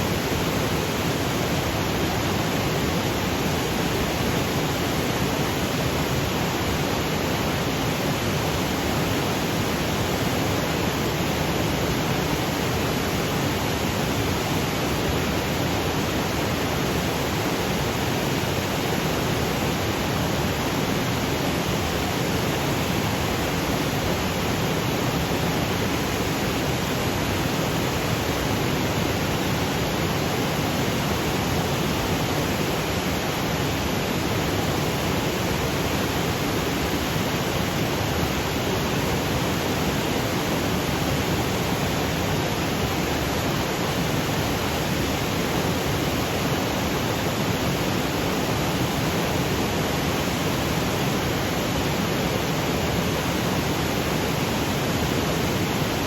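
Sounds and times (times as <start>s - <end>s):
waterfall rushing over boulders: 0.0s - 56.0s.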